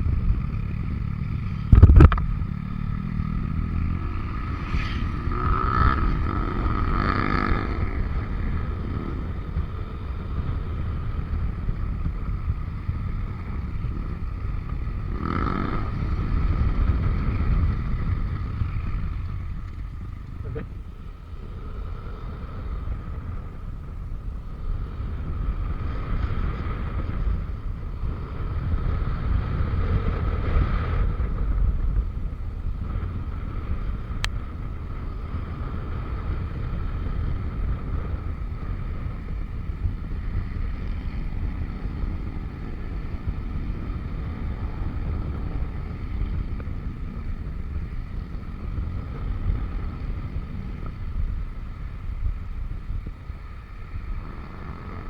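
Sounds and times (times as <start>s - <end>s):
scooter engine and drive whine: 0.0s - 55.0s
wind buffeting microphone: 0.0s - 55.0s.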